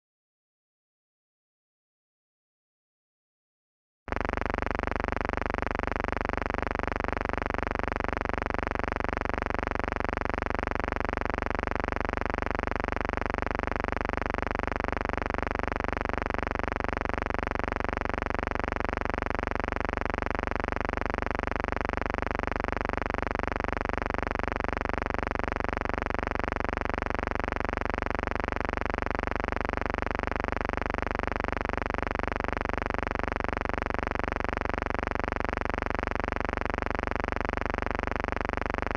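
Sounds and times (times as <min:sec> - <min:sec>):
steady electrical buzz: 0:04.1 - 0:38.9.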